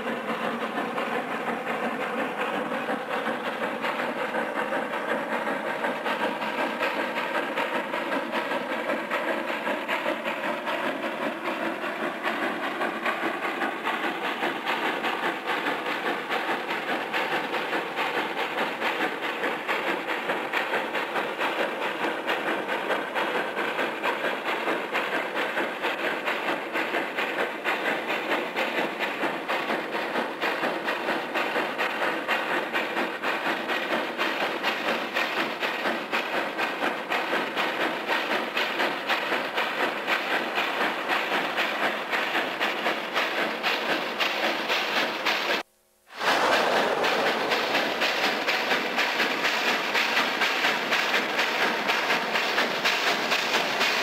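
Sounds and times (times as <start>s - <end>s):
steam hiss: 0.0s - 54.0s
steam locomotive chuffing: 0.0s - 54.0s.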